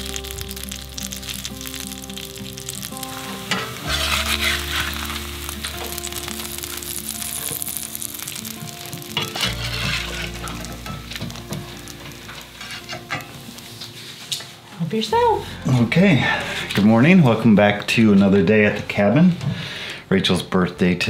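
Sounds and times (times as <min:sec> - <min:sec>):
bacon sizzling in a skillet: 0:00.0 - 0:19.8
soft background music: 0:00.0 - 0:21.0.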